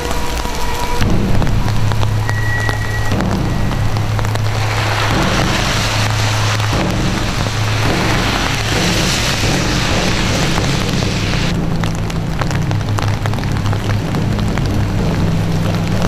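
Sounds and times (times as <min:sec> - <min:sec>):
low hum: 0:00.0 - 0:16.0
rain hissing: 0:00.0 - 0:16.0.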